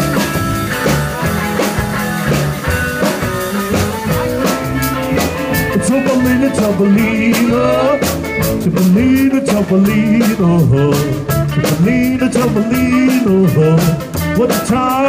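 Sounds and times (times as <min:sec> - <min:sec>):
double bass: 0:00.0 - 0:15.0
drum kit beats: 0:00.0 - 0:15.0
electric guitar: 0:00.0 - 0:15.0.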